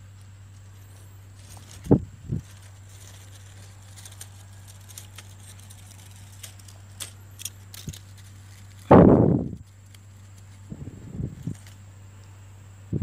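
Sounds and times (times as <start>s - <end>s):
dry leaves crackling and rustling: 0.0s - 12.4s
steady low hum: 0.0s - 13.0s.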